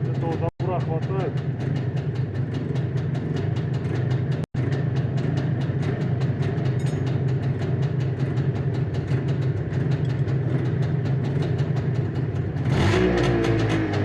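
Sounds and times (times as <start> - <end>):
two-stroke engine idling: 0.0 - 14.0.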